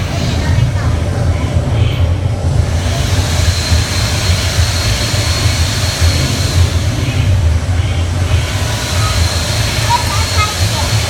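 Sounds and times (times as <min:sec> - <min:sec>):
wind rushing and rumbling: 0:00.0 - 0:11.0.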